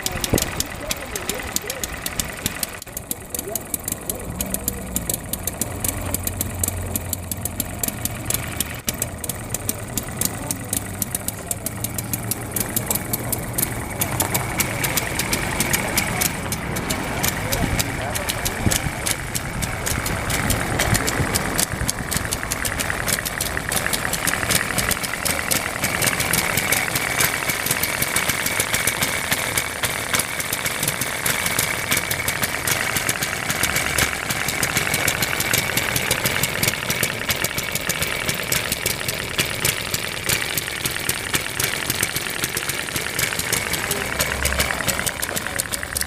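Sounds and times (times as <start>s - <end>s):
engine clattering: 0.0s - 46.0s.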